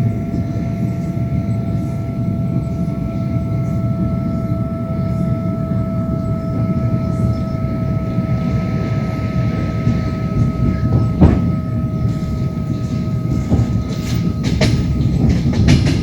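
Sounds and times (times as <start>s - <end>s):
steady train whine: 0.0s - 16.0s
train wheels rumbling on rails: 0.0s - 16.0s.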